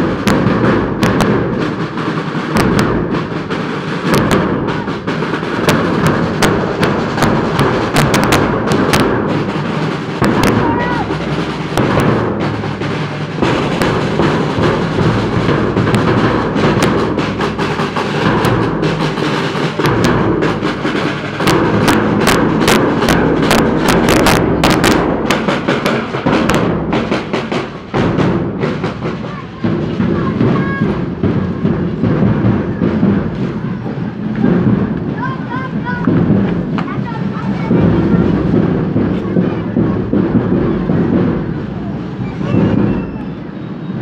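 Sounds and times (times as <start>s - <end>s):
sharp cracking drum strokes: 0.0s - 44.0s
street drum band: 0.0s - 44.0s.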